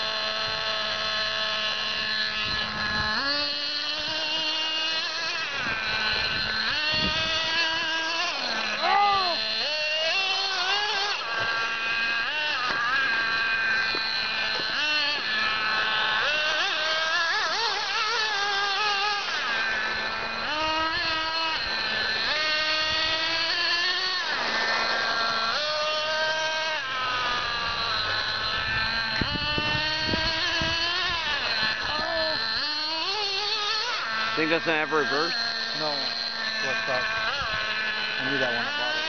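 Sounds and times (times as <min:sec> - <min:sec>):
rc buggy motor revving: 0:00.0 - 0:39.0.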